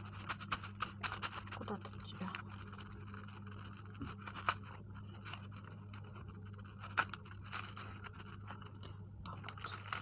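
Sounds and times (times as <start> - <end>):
scratching and rustling tissue: 0.0 - 10.0
steady low hum: 0.0 - 10.0.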